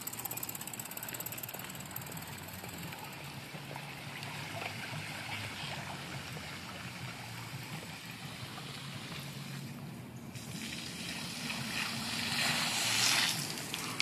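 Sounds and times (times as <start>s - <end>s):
bicycle tyres splashing through water: 0.0s - 9.7s, 10.4s - 14.0s.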